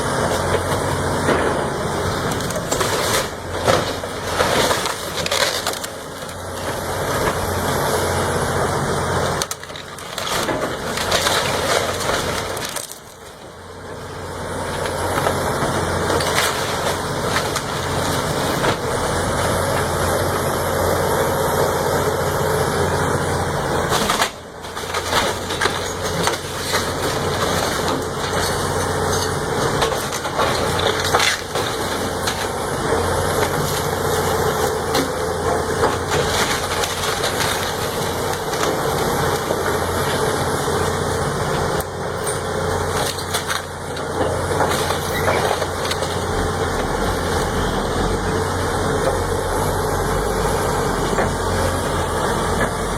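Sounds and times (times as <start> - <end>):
wood crushing and splintering: 0.0 - 52.9.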